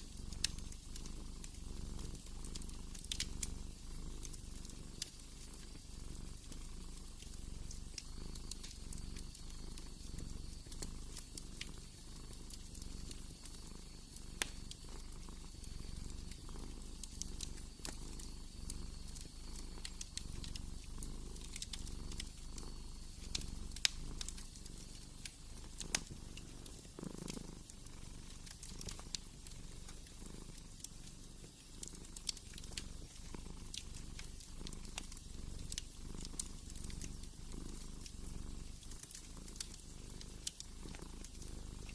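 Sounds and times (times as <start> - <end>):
cat purring: 0.0 - 41.9
wood fire crackling: 0.0 - 41.9.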